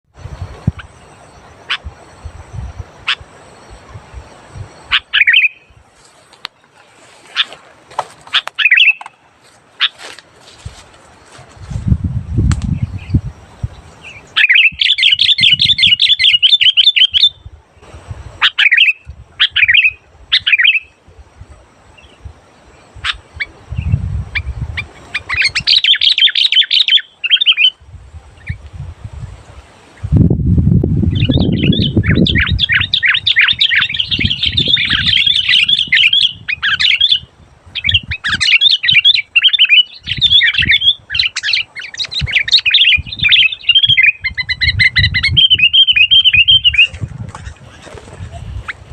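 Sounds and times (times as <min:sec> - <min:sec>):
birds chattering song: 0:00.3 - 0:10.2, 0:12.3 - 0:21.0, 0:21.9 - 0:27.8, 0:31.0 - 0:48.9.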